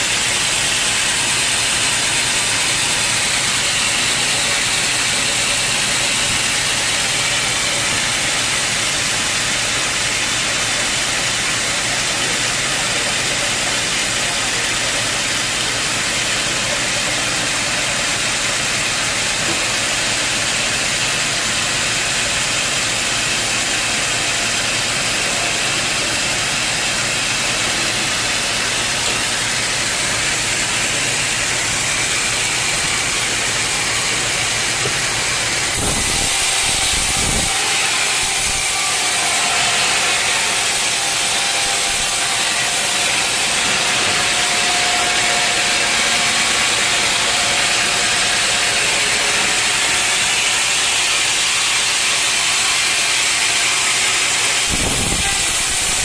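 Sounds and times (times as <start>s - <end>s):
sawmill saw cutting logs: 0.0s - 56.0s.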